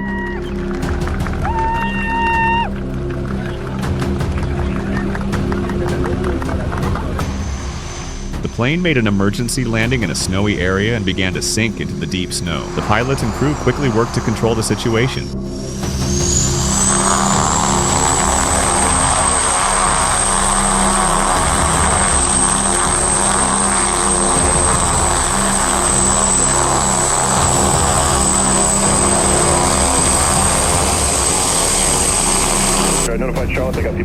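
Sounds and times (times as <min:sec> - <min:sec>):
high-pitched engine whine: 0:00.0 - 0:33.9
aircraft engine running: 0:00.0 - 0:34.0.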